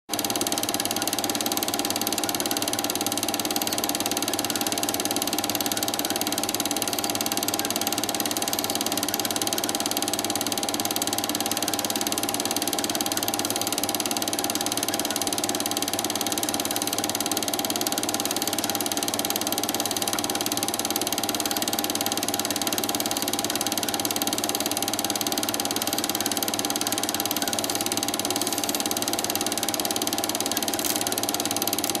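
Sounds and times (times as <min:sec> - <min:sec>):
film projector clatter and whir: 0:00.1 - 0:32.0.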